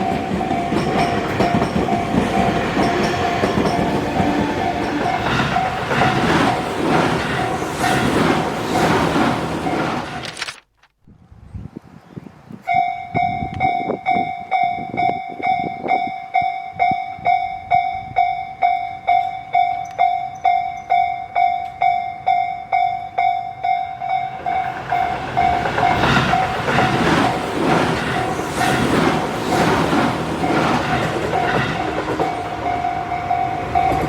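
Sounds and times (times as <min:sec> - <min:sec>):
level-crossing warning bell: 0:00.0 - 0:08.5, 0:12.6 - 0:29.3, 0:30.0 - 0:34.0
train passing over crossing: 0:00.0 - 0:10.3, 0:12.6 - 0:34.0.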